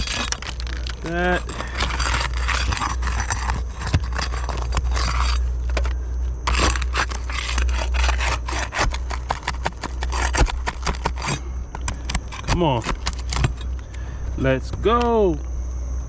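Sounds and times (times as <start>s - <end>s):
shingles scraping: 0.0s - 13.8s
steady low hum: 0.0s - 16.0s.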